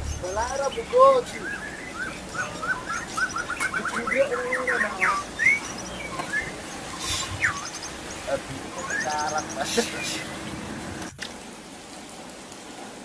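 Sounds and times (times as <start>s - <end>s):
bird chirping notes: 0.0s - 10.5s.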